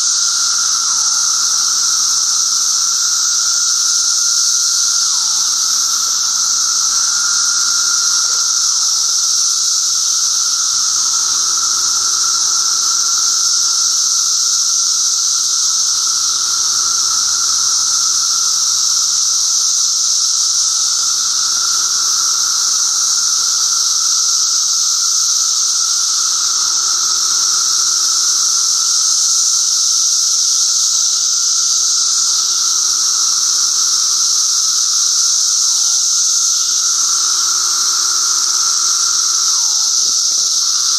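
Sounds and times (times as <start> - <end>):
cicadas buzzing: 0.0 - 40.9
lower cicada whine: 0.0 - 40.9.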